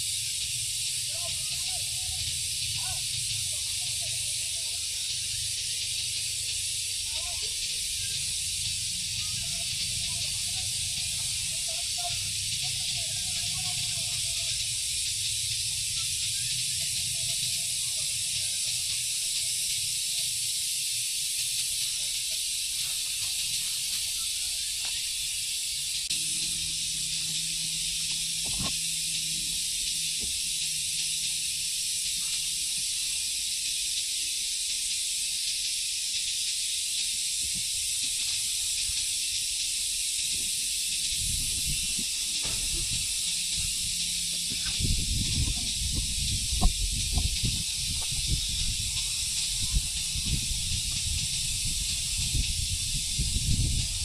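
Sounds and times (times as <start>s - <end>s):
steady high hiss: 0.0s - 54.0s.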